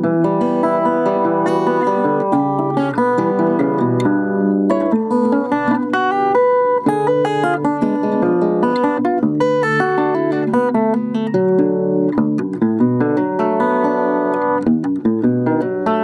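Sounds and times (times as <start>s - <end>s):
acoustic guitar plucked solo: 0.0s - 16.0s.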